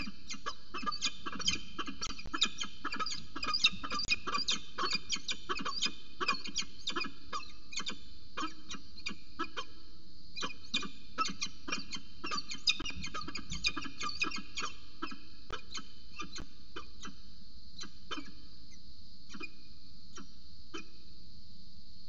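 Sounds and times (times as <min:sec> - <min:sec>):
falcon chipping calls: 0:00.0 - 0:09.7, 0:10.4 - 0:17.2, 0:17.8 - 0:18.4, 0:19.3 - 0:21.0.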